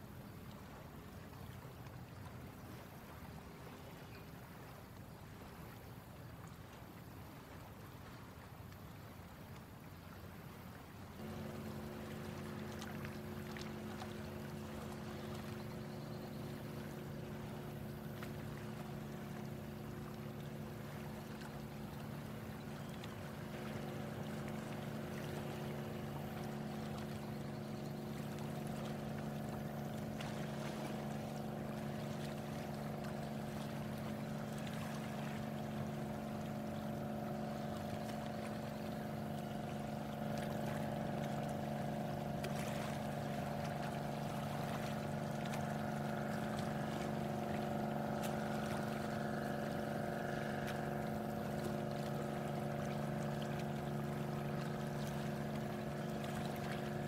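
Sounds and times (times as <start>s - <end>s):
motorboat engine running: 0.0s - 57.0s
water noise: 0.0s - 57.0s.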